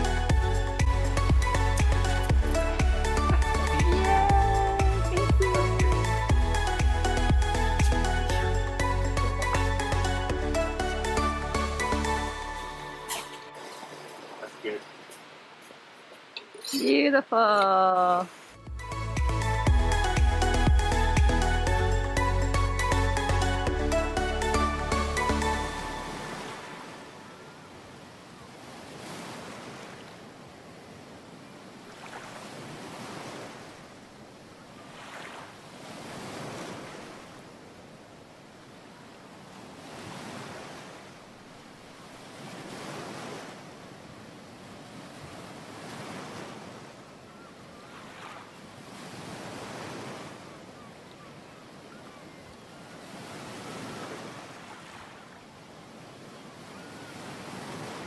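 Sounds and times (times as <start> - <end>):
ocean waves washing in: 0.0 - 16.4, 24.6 - 50.7, 52.9 - 58.0.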